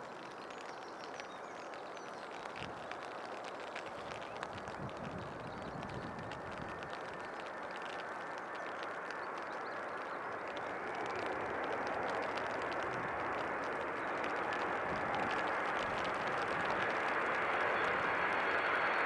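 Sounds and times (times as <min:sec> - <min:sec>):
faint steady whine: 0:00.0 - 0:19.0.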